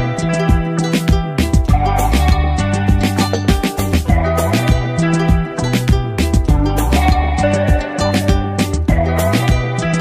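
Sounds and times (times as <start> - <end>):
upbeat music with drum beat: 0.0 - 10.0.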